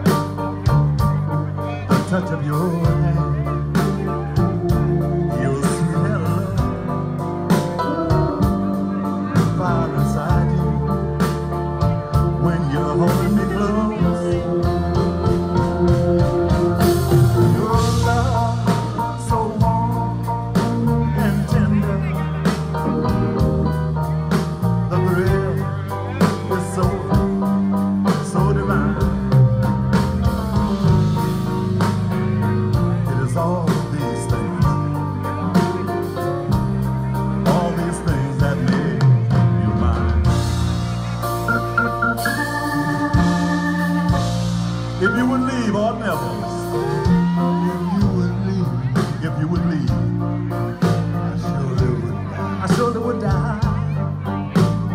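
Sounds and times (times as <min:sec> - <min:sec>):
drums: 0:00.0 - 0:54.9
electric bass guitar: 0:00.0 - 0:54.9
grand piano: 0:00.0 - 0:54.9
organ: 0:00.0 - 0:54.9.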